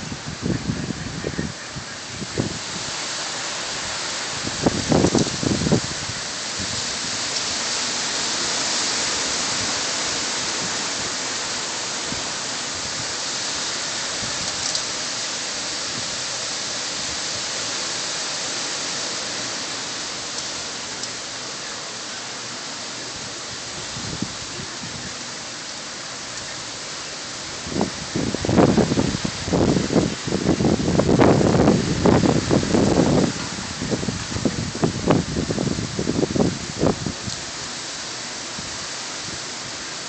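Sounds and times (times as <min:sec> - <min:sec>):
driving rain: 0:00.0 - 0:40.0
hurricane wind rushing: 0:00.0 - 0:40.0.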